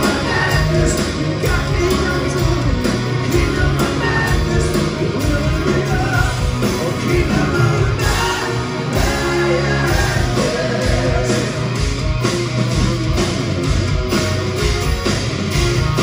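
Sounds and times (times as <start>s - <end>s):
electric guitar: 0.0s - 16.0s
hard rock band playing live: 0.0s - 16.0s.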